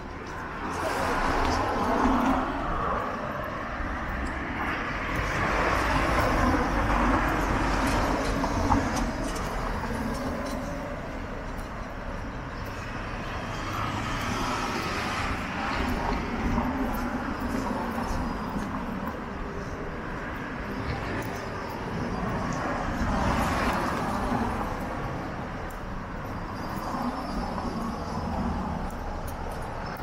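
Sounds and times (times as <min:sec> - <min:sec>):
traffic rushing: 0:00.0 - 0:30.0.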